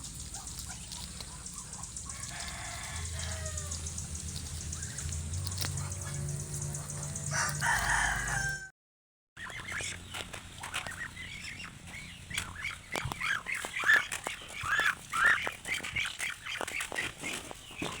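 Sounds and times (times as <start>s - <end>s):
flock of birds chirping: 0.0s - 8.7s, 9.4s - 18.0s.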